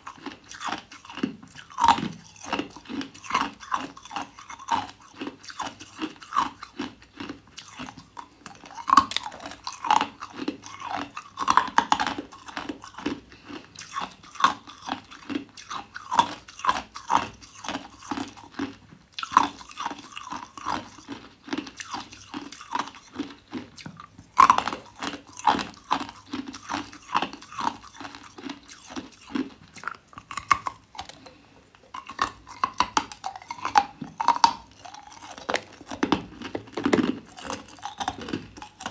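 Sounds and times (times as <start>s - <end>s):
ice crunching while chewed: 0.0s - 38.9s.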